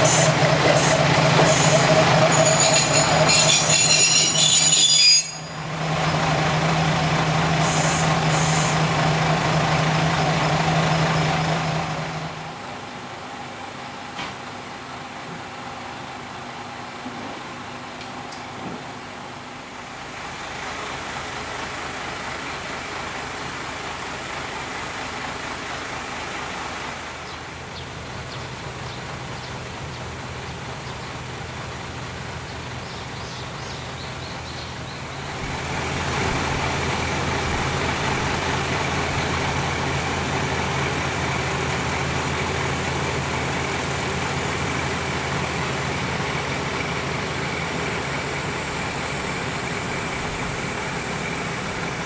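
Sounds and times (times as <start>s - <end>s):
diesel railcar engine hum: 0.0s - 52.0s.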